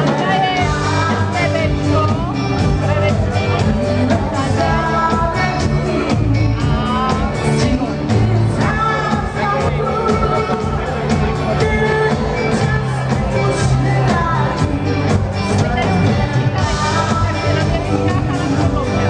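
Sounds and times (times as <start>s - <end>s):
electric guitars: 0.0s - 19.0s
keyboards: 0.0s - 19.0s
person singing: 0.0s - 19.0s
steady drum beat: 0.0s - 19.0s.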